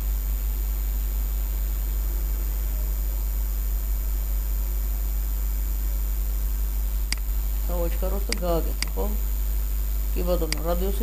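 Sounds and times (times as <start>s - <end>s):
faint high-pitched whines: 0.0s - 11.0s
low mains hum: 0.0s - 11.0s
microphone hiss: 0.0s - 11.0s.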